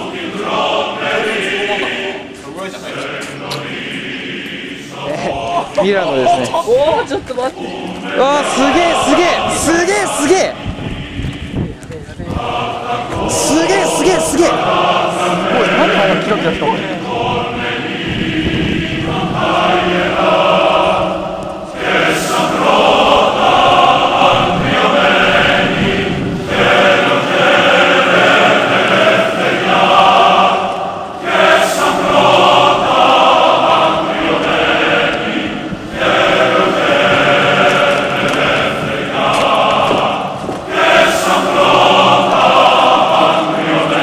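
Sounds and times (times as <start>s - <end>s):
choir singing held chords: 0.0s - 44.0s.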